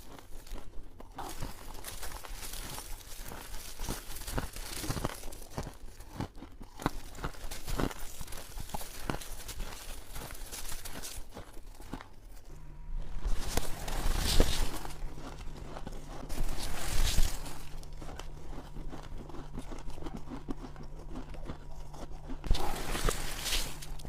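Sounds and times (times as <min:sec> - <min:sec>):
chewing crunchy ice: 0:00.0 - 0:24.0.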